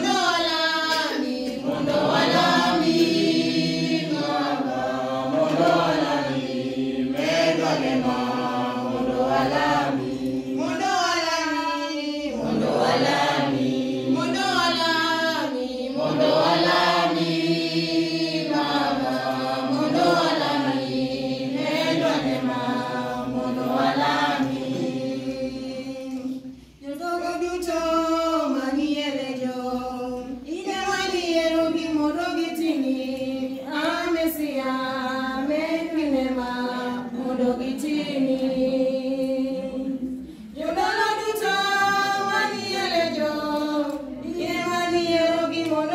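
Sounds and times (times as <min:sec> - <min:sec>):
choir singing a hymn: 0:00.0 - 0:45.9.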